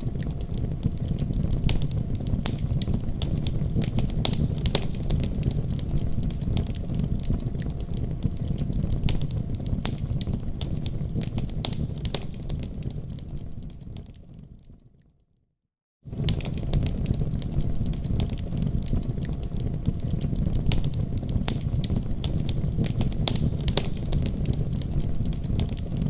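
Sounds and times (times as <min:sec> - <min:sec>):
wood fire crackling and popping: 0:00.0 - 0:15.0, 0:16.1 - 0:26.0.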